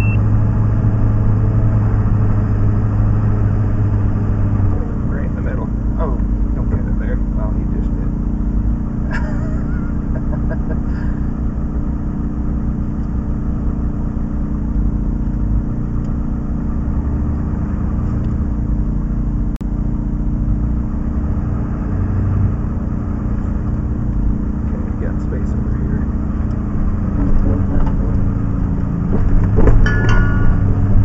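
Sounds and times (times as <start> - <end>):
fire engine motor droning: 0.0 - 31.0.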